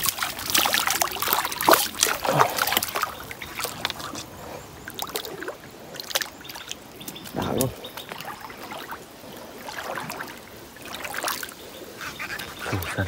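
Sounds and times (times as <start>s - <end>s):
fish thrashing and splashing: 0.0s - 11.6s.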